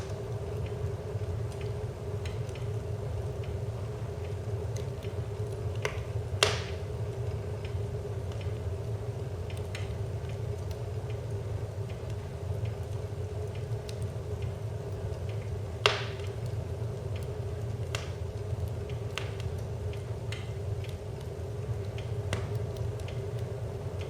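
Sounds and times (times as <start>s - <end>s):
loud crack of burning wood: 0.0s - 24.0s
wood fire crackling: 0.0s - 24.0s.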